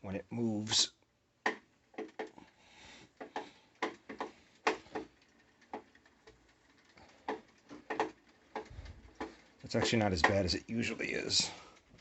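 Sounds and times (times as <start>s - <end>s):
exercise machine knocking: 1.4s - 2.4s, 3.1s - 12.0s.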